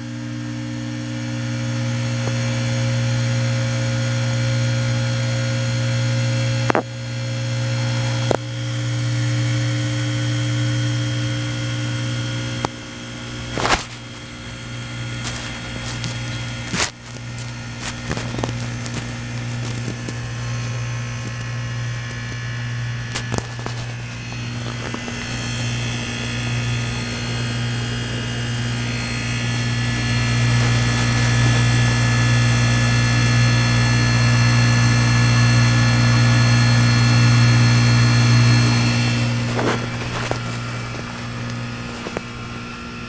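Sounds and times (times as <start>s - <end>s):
heat pump humming and hissing: 0.0s - 43.0s.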